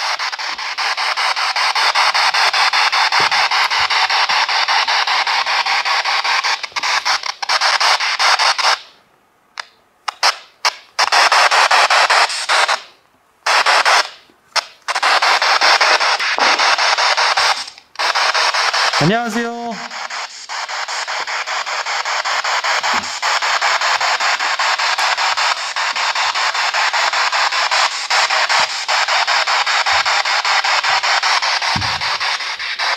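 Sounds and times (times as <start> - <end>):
choppy radio static: 0.0 - 8.8, 13.5 - 32.9.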